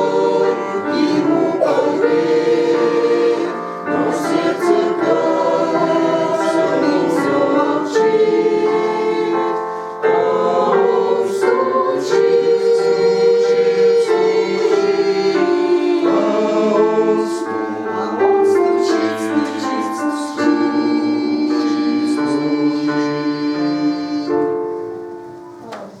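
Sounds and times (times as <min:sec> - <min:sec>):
church choir singing a hymn: 0:00.0 - 0:26.0.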